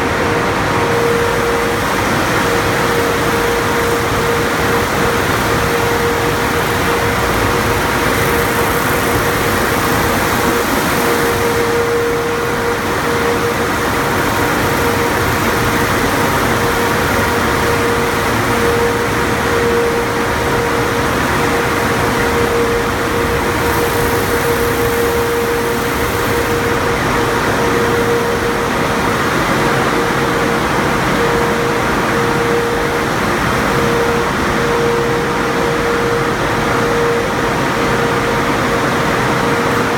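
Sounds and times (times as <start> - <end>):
motor hum: 0.0 - 39.9
high-pressure water spray rushing: 0.1 - 35.2.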